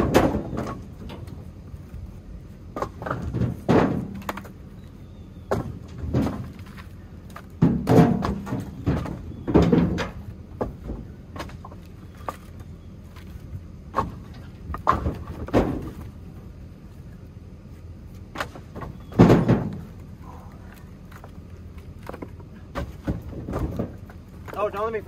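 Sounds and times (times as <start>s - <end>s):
firewood logs knocking together: 0.0s - 17.1s, 18.1s - 25.0s.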